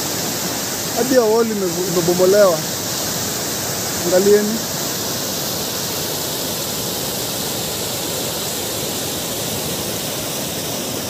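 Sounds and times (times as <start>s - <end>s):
floodwater rushing in rapids: 0.0s - 11.0s.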